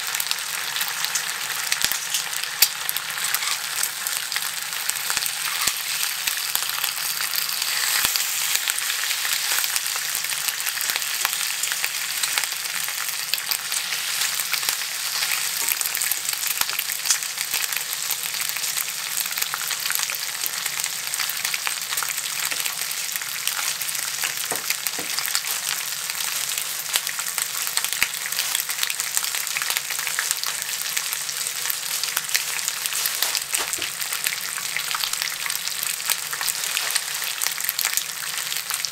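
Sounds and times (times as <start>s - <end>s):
bacon sizzling in a skillet: 0.0s - 38.9s.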